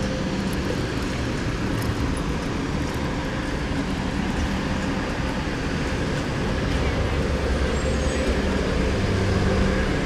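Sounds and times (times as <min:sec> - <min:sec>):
city traffic noise: 0:00.0 - 0:10.0.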